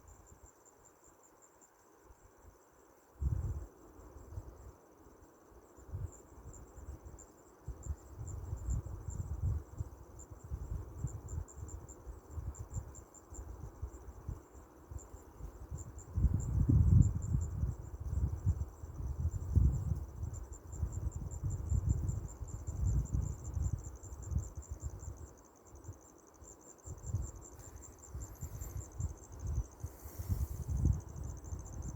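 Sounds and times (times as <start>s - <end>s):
insects trilling: 0.0s - 31.9s
wind rumbling on microphone: 3.2s - 4.7s, 5.8s - 26.1s, 26.8s - 31.9s.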